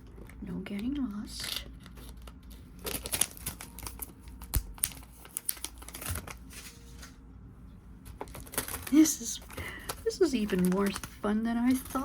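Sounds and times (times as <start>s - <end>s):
plastic packaging crinkling: 0.0s - 7.2s, 8.0s - 12.0s.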